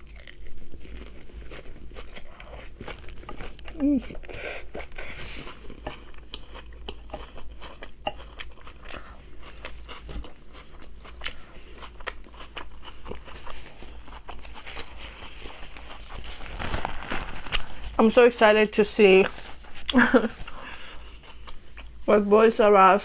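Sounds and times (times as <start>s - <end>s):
crunchy chewing of food: 0.0s - 18.0s, 19.3s - 22.0s.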